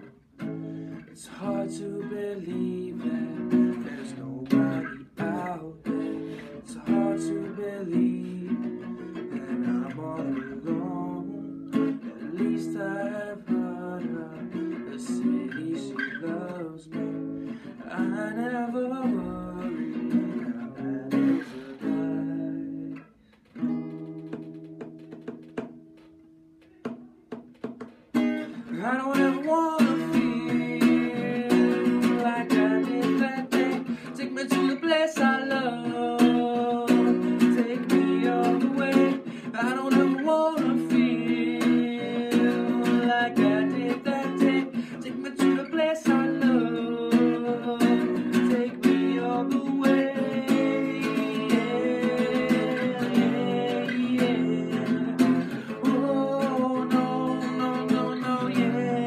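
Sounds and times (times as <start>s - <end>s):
acoustic guitar picked and strummed: 0.0s - 59.0s
man singing: 1.0s - 23.1s, 28.4s - 59.0s.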